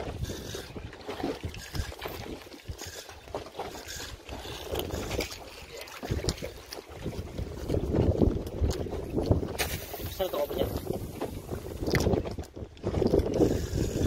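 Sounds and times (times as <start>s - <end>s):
water splashing against hull: 0.0s - 14.0s
wind buffeting microphone: 0.0s - 14.0s.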